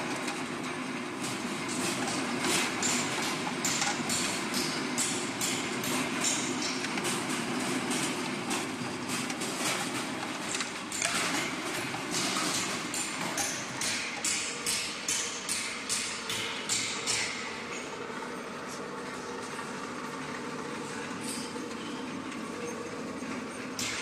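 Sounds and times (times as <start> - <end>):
machine mechanical hum: 0.0 - 24.0.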